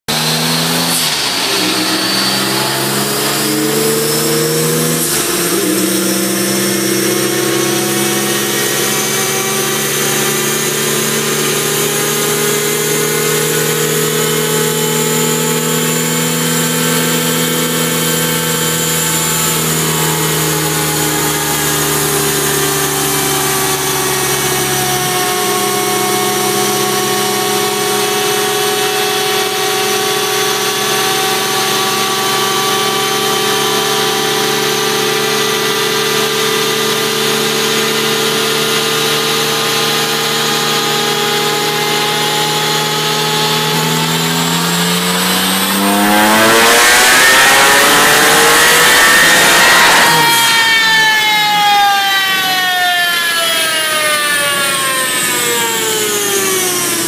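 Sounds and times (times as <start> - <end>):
turbocharged engine under load: 0.0 - 57.0
steady high whine: 0.1 - 57.0.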